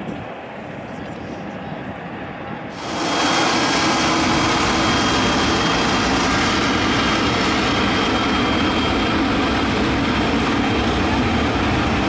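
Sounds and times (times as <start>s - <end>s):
jet engines at high power: 0.0s - 12.0s.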